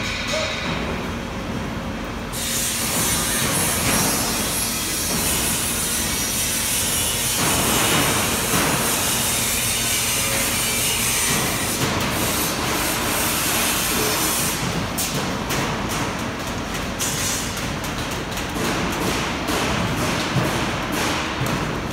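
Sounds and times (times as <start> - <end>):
machinery running with hiss: 1.8 - 21.9.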